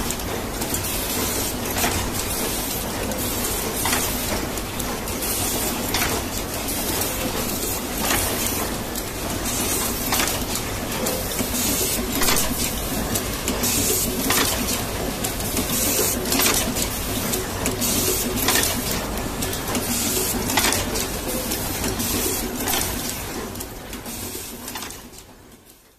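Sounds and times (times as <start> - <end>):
factory machinery clatter: 0.0 - 25.3
wire crimping machine clacking: 0.0 - 25.3.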